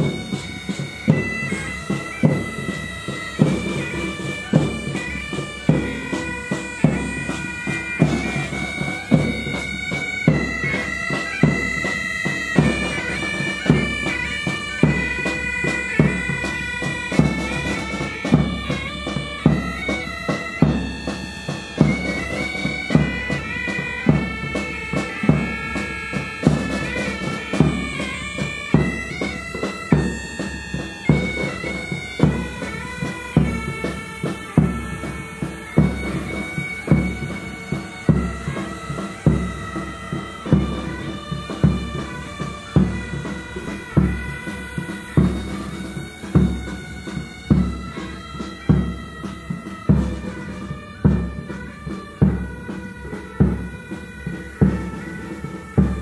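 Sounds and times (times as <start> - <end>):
drum beating: 0.0 - 56.0
pipe band playing a march: 0.0 - 56.0.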